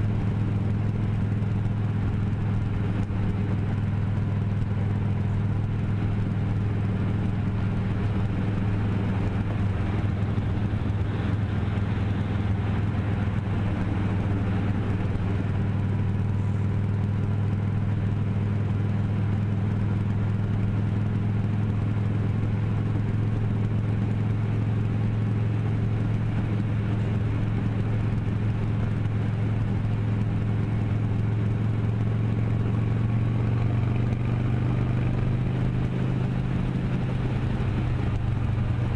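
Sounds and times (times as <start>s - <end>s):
motorcycle engine droning: 0.0s - 38.9s
road and wind noise: 0.0s - 38.9s.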